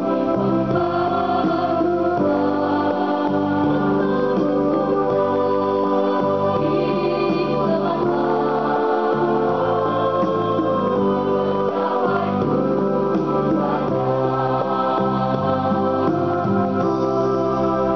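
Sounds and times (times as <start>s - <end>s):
choir singing held chords: 0.0s - 17.9s
electronic keyboard organ accompaniment: 0.0s - 17.9s.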